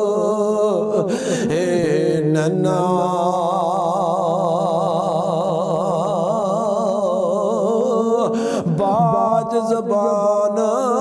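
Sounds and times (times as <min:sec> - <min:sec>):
man singing melismatic notes: 0:00.0 - 0:11.0.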